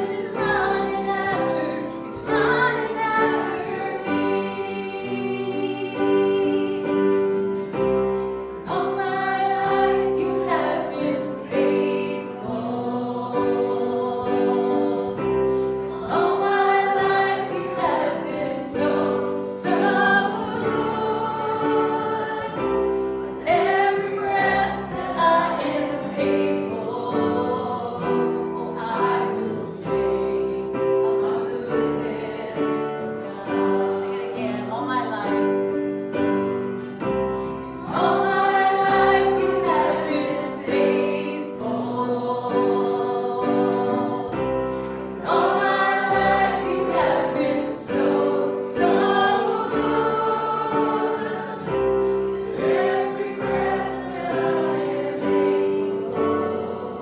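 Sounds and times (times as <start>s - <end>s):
group singing a hymn: 0.0s - 57.0s.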